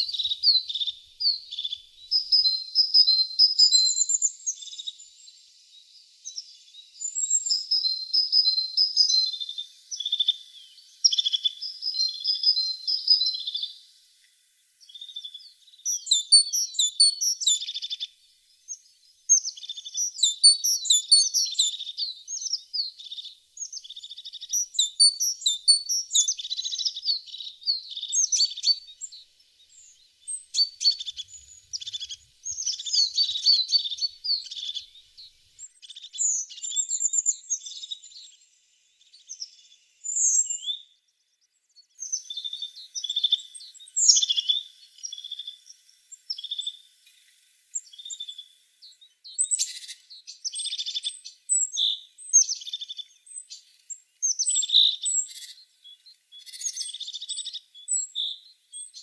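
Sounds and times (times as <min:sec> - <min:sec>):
tits singing high chirps and trills: 0:00.0 - 0:59.0.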